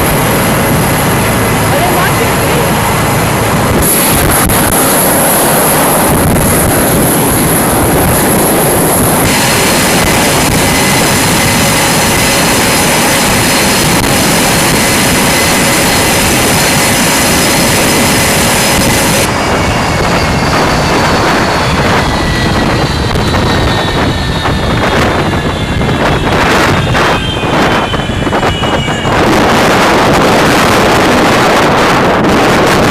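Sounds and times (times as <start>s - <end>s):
jet engine roar with high whine: 0.0s - 32.9s
wind buffeting microphone: 0.0s - 32.9s.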